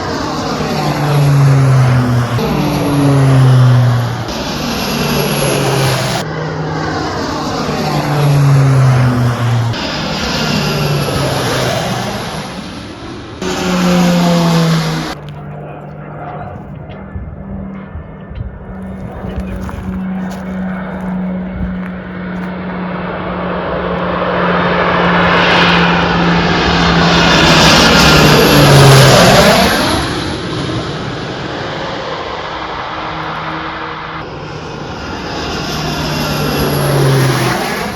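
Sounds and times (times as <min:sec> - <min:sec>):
propeller aircraft engines droning: 0:00.0 - 0:37.9.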